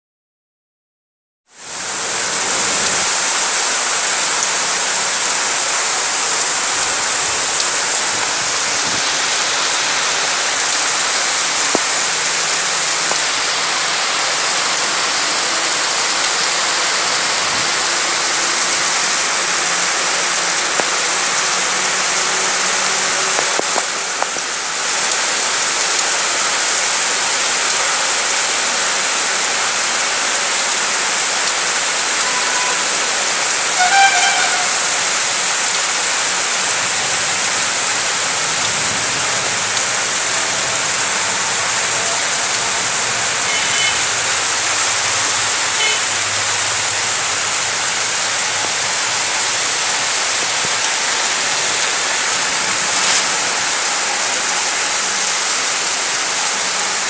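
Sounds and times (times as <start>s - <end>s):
heavy rain pouring: 1.5s - 57.0s.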